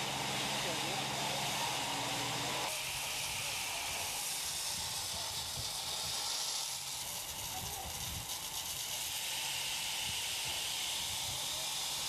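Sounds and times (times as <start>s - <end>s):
water spraying from fire hoses: 0.0s - 12.0s.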